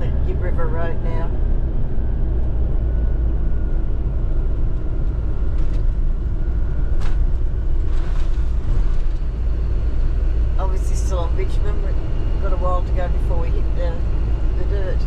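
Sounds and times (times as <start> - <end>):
vehicle road rumble: 0.0 - 15.0.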